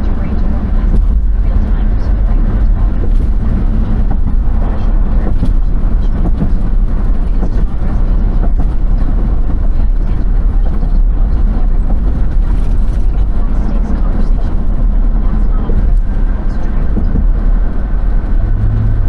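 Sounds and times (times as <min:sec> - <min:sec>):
vehicle rumble: 0:00.0 - 0:19.0.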